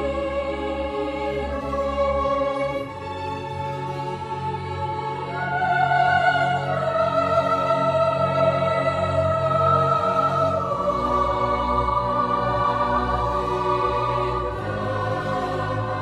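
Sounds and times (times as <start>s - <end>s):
slow choral music: 0.0s - 16.0s.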